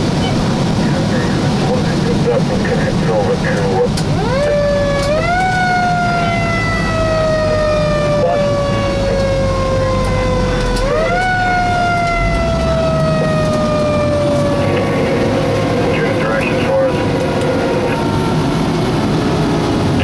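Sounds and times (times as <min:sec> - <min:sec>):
truck engine rumble: 0:00.0 - 0:20.0
fire engine siren: 0:03.2 - 0:20.0.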